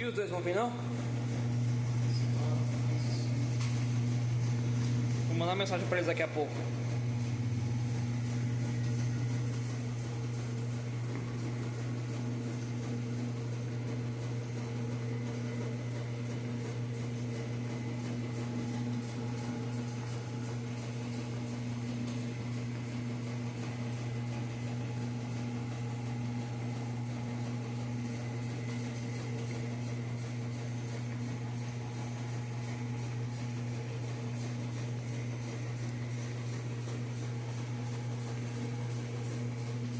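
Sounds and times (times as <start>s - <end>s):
washing machines humming: 0.0s - 39.9s.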